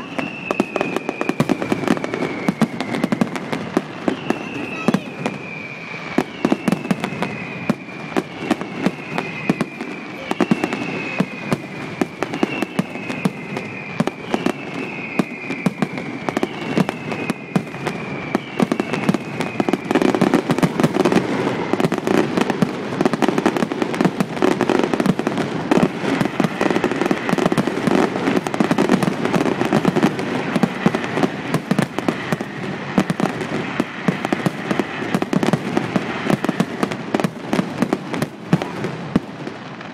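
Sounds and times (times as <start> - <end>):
falling firework whistles: 0.0 - 39.9
fireworks bangs and crackling: 0.0 - 39.9.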